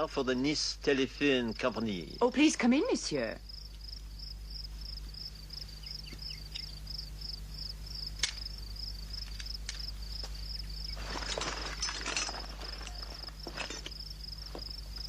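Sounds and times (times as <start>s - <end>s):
cricket chirping: 0.0s - 15.0s
low steady hum: 0.0s - 15.0s.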